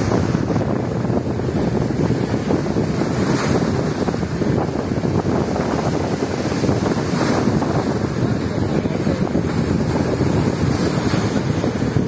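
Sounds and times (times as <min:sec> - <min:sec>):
waves splashing on concrete: 0:00.0 - 0:12.0
wind buffeting microphone: 0:00.0 - 0:12.0.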